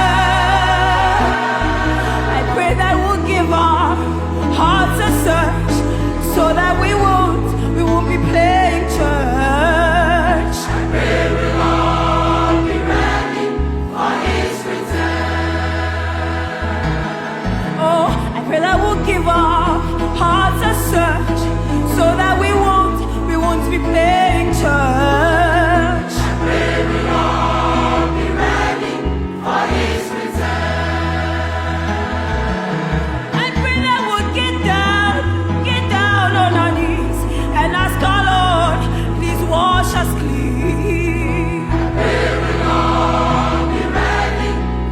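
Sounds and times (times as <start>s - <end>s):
bass accompaniment: 0.0s - 44.9s
gospel choir singing: 0.0s - 44.9s.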